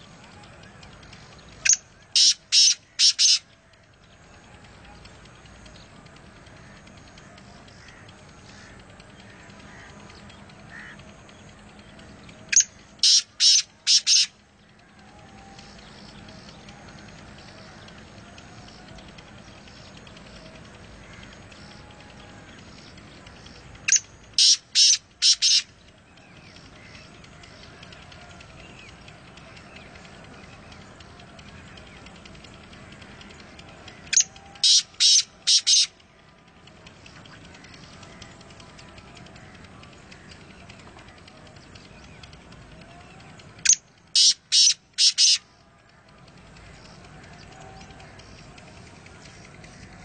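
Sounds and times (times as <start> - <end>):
bird calling harsh notes: 0.0 - 36.2, 36.8 - 45.7.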